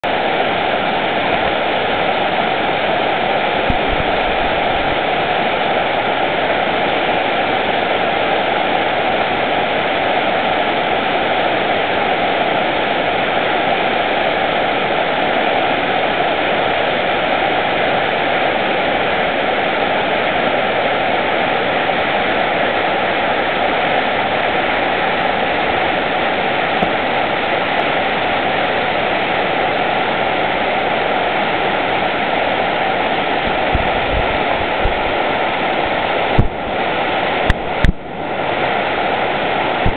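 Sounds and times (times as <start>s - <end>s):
river rapids rushing over rocks: 0.1s - 39.9s.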